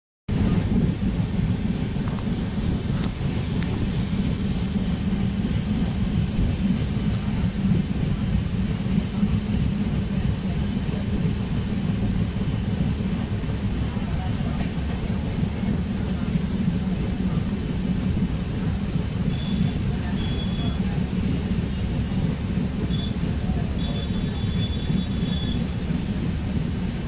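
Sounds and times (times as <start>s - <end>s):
moving train rumble: 0.3s - 27.0s
rain: 0.3s - 27.0s
wind: 0.3s - 27.0s.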